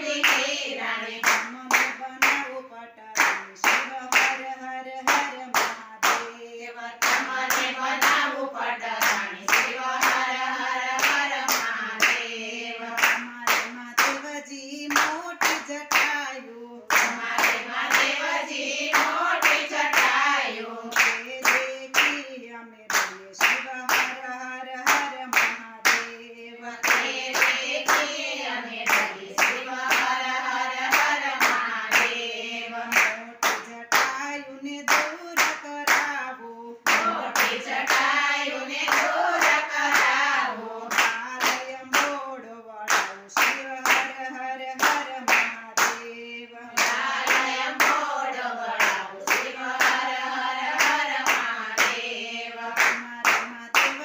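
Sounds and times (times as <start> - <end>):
women singing in unison: 0.0 - 54.0
hand claps: 0.1 - 2.6, 3.2 - 12.3, 12.9 - 32.2, 32.9 - 40.3, 40.9 - 42.3, 42.9 - 54.0.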